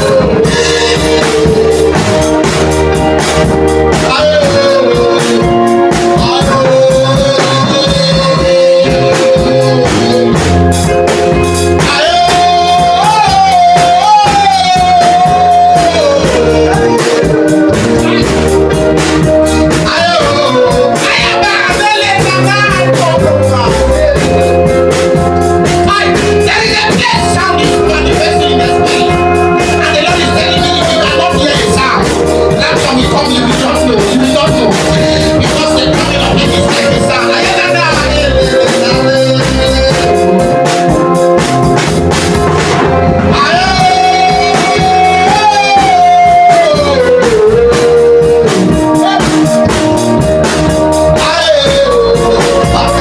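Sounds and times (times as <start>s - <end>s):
band playing drums guitar and bass: 0.0s - 53.0s
person singing: 0.0s - 53.0s.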